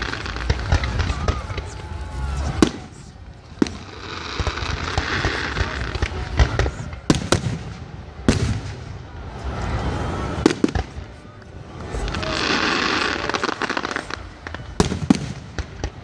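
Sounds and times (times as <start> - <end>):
firework bangs: 0.0 - 16.0
firework crackle: 0.0 - 16.0.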